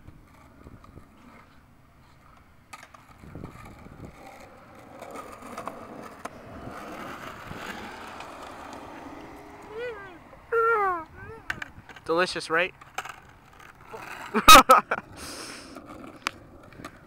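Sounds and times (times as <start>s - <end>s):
skateboard wheels rolling on asphalt: 0.0s - 17.0s
skateboard clicks: 0.2s - 14.4s, 15.0s - 17.0s.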